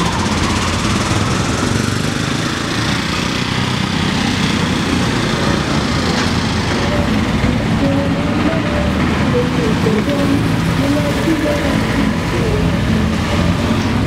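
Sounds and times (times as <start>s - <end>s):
road and wind noise: 0.0s - 14.0s
small engine running: 0.0s - 14.0s.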